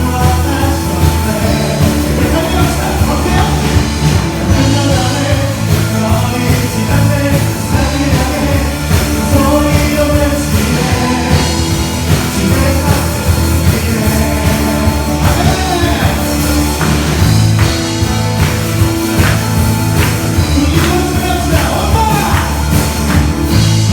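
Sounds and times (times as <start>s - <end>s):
worship band playing with singing: 0.0s - 23.9s.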